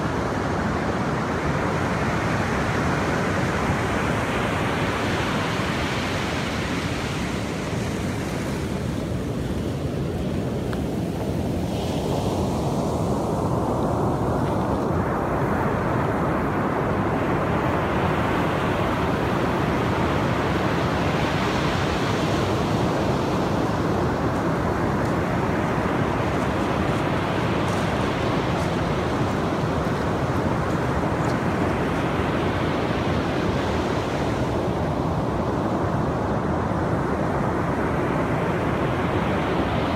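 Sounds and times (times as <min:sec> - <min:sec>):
wind buffeting microphone: 0:06.2 - 0:39.9.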